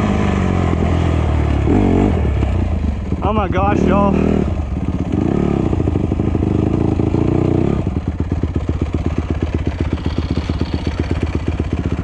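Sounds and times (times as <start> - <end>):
motorcycle engine puttering: 0.1 - 12.0.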